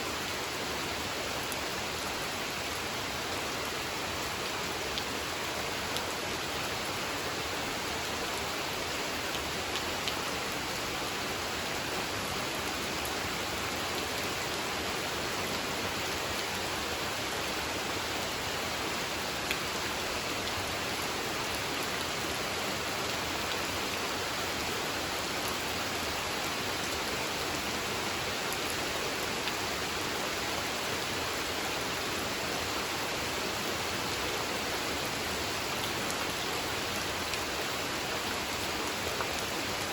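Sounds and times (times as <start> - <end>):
gentle rain patter: 0.0 - 39.9.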